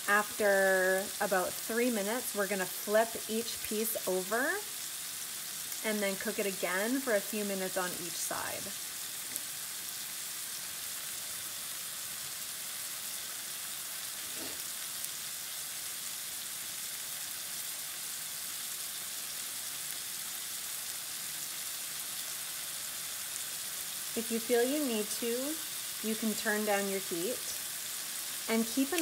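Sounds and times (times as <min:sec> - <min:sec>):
chicken sizzling in a frying pan: 0:00.0 - 0:29.0.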